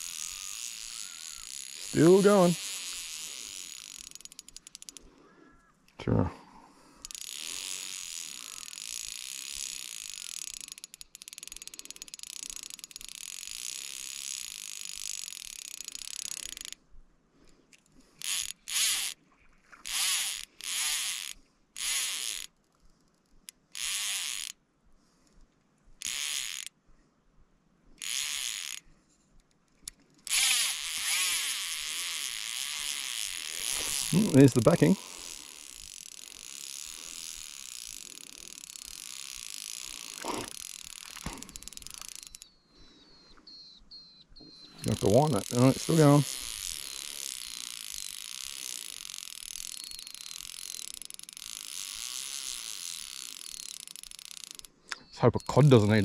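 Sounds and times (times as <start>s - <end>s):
fishing reel drag buzzing: 0.0s - 5.2s, 6.9s - 16.8s, 17.8s - 24.6s, 26.0s - 26.8s, 28.0s - 28.9s, 29.8s - 42.9s, 44.5s - 56.0s.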